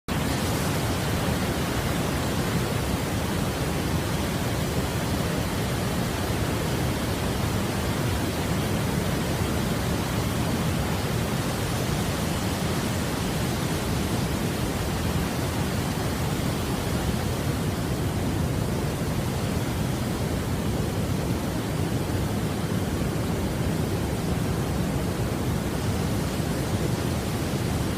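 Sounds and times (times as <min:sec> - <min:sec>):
waterfall rushing: 0:00.1 - 0:27.9.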